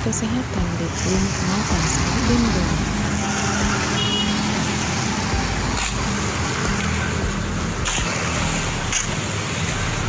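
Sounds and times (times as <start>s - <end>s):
engine hum of passing traffic: 0.0s - 10.0s
tyres hissing on wet road: 0.8s - 10.0s.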